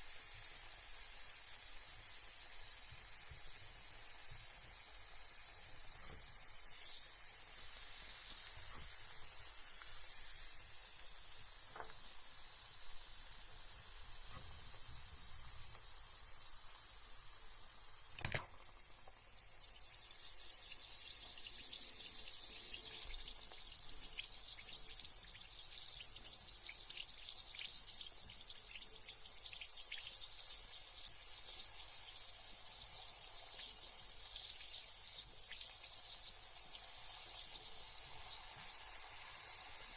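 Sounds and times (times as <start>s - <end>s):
bath bomb fizzing: 0.3s - 39.9s.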